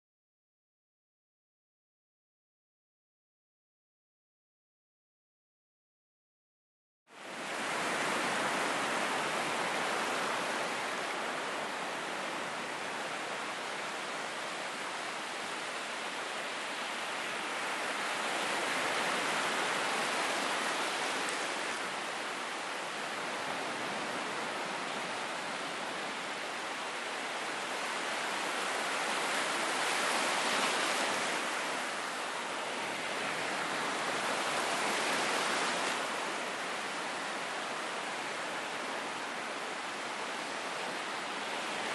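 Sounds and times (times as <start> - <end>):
ocean waves breaking: 7.3 - 41.9.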